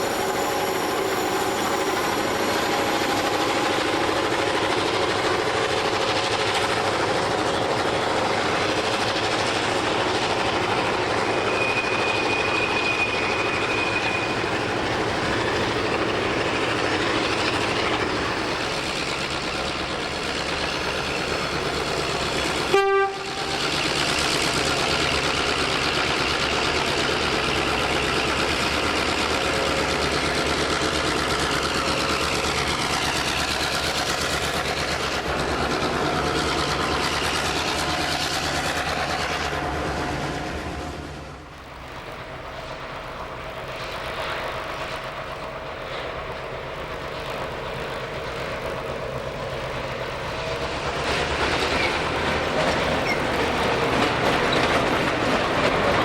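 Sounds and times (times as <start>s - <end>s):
diesel locomotive engine: 0.0s - 56.0s
rail noise: 0.0s - 56.0s.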